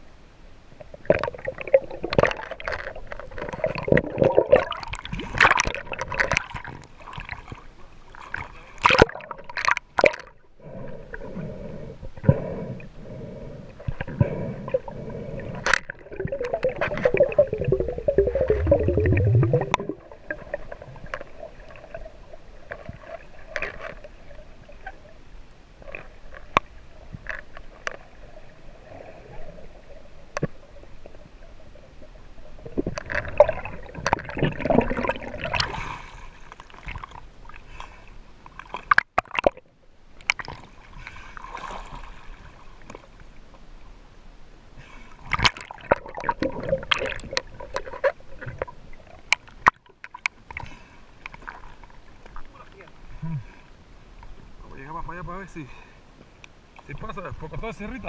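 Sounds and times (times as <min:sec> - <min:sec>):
water gurgling and sloshing: 0:00.0 - 0:58.0.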